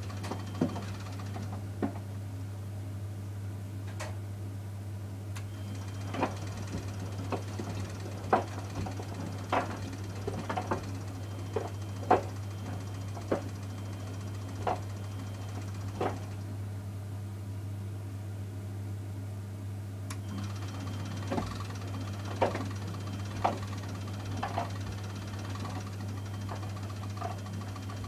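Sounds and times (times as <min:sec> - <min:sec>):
washing machine hum: 0:00.0 - 0:04.2, 0:05.1 - 0:18.1, 0:20.0 - 0:28.0.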